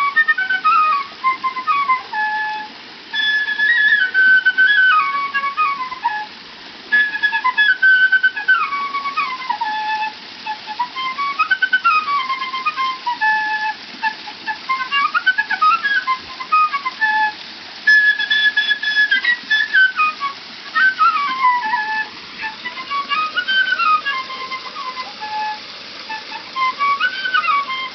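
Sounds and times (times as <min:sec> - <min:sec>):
bamboo flute melody: 0:00.0 - 0:27.9.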